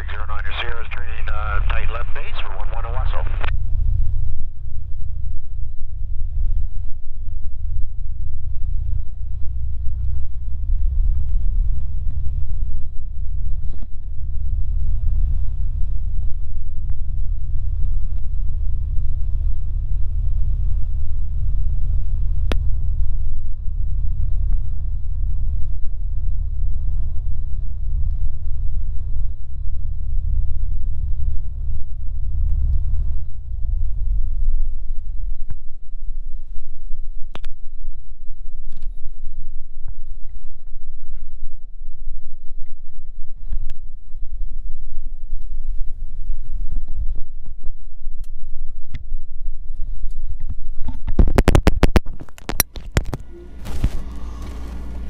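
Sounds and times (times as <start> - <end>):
aircraft engine and propeller rumble: 0.0 - 55.0.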